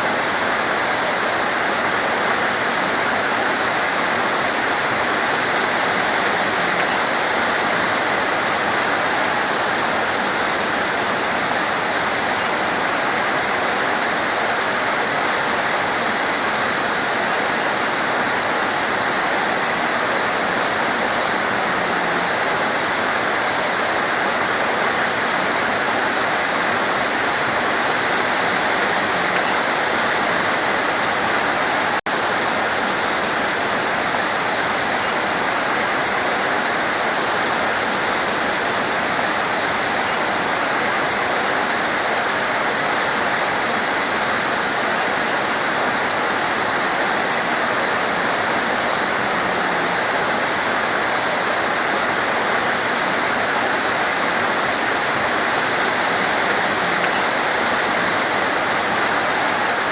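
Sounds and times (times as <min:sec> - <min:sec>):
torrential rain: 0:00.0 - 0:59.9.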